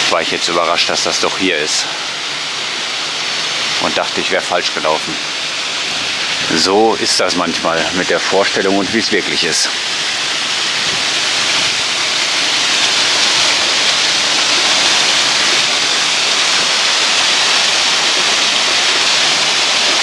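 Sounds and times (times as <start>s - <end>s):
waterfall splashing: 0.0s - 20.0s.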